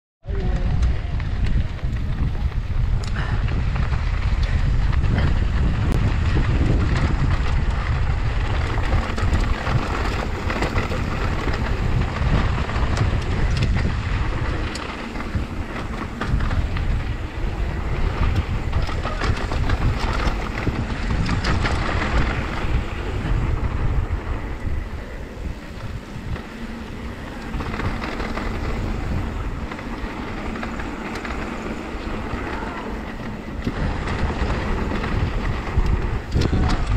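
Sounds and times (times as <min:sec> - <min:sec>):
bike clicks and rattles: 0:00.2 - 0:36.9
bike tyres rolling on dirt: 0:00.2 - 0:36.9
wind buffeting microphone: 0:00.2 - 0:36.9.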